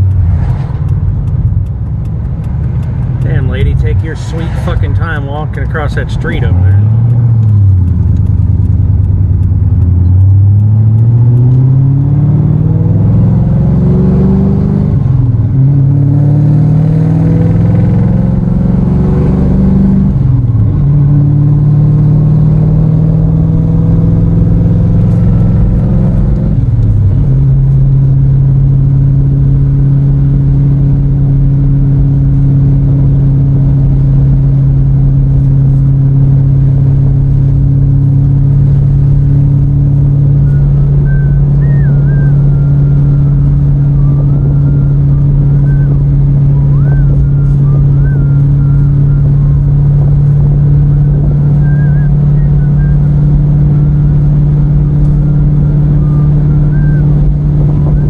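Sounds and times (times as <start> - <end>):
vehicle engine accelerating through gears: 0.0 - 58.0.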